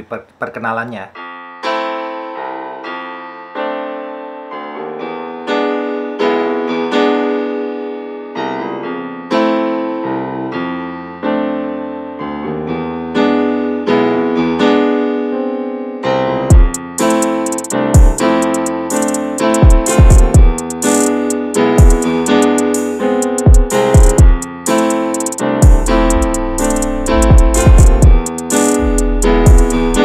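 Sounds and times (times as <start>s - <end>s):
piano notes and chords: 1.1s - 30.0s.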